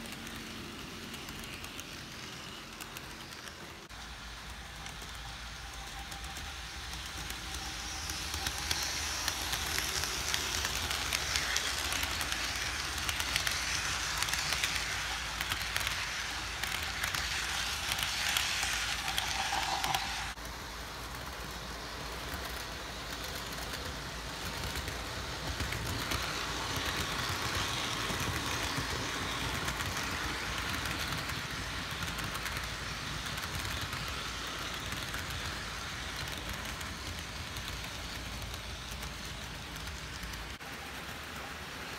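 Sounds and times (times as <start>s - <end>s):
model train running on track: 0.0s - 41.9s.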